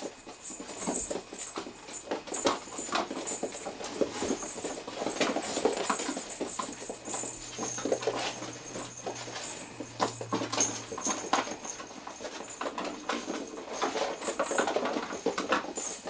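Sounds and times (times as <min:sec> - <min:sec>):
paws clicking on tile floor: 0:00.0 - 0:16.0.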